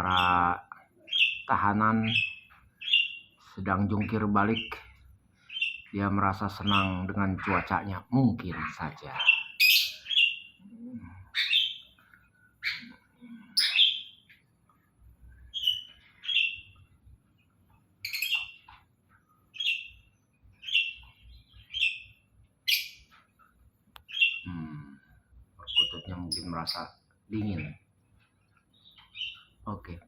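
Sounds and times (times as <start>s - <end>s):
birds chirping sharply: 0.0s - 14.5s, 15.3s - 17.2s, 18.0s - 18.8s, 19.4s - 23.4s, 24.0s - 27.9s, 28.6s - 30.0s.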